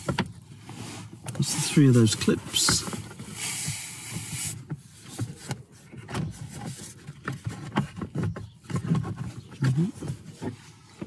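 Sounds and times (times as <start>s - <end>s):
plastic rubbing on plastic: 0.0s - 11.0s.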